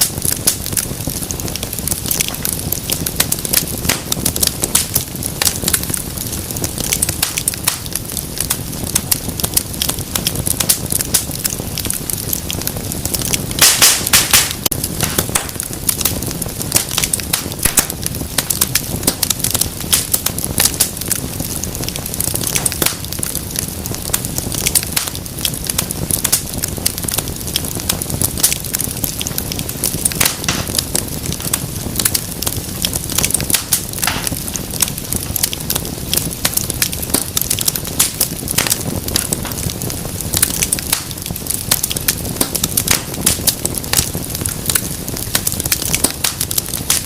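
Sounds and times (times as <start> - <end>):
low rumble of flames: 0.0 - 47.0
sharp pops from fire: 0.0 - 47.0
wood fire crackling: 0.0 - 47.0.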